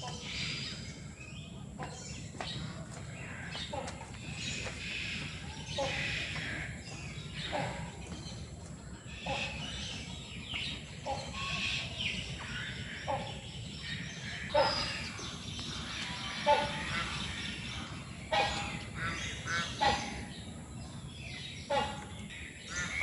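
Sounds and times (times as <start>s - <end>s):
many birds chirping: 0.0s - 23.0s.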